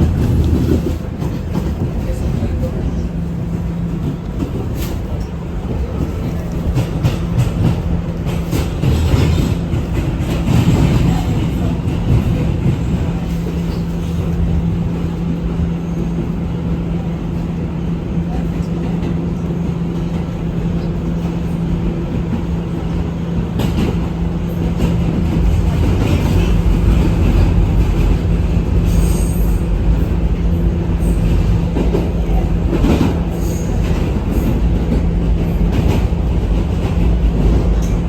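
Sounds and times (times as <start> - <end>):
train running on track: 0.0 - 38.0.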